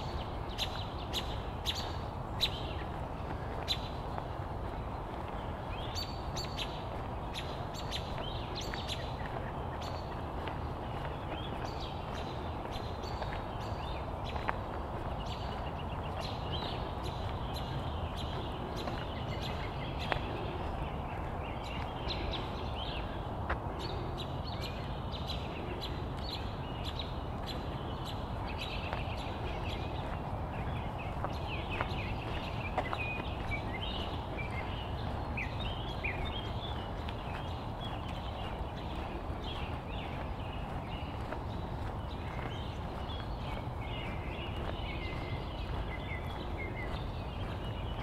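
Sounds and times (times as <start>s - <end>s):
footsteps on pavement: 0.0s - 48.0s
steady low rumble: 0.0s - 48.0s.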